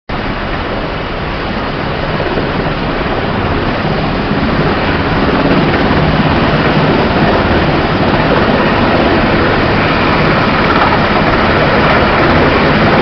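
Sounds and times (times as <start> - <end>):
helicopter rotor and turbine: 0.1 - 13.0.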